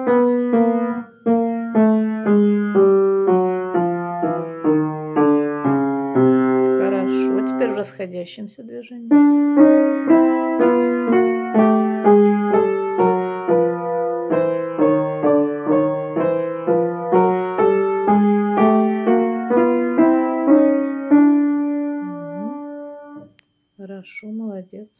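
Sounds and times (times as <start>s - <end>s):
piano playing chromatic scale: 0.0s - 8.0s, 9.0s - 23.4s.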